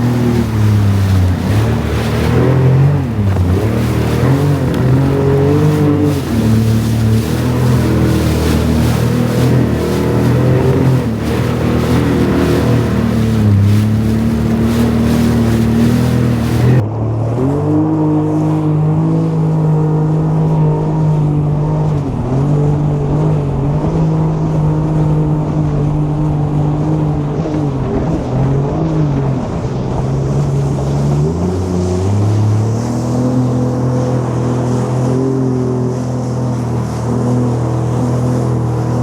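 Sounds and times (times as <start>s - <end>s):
jet ski engine droning: 0.0s - 39.0s
rushing wind and water: 0.0s - 39.0s.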